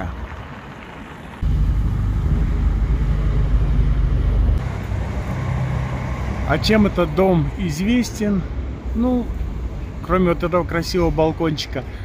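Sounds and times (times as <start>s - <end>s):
street traffic engine rumble: 0.0s - 12.0s.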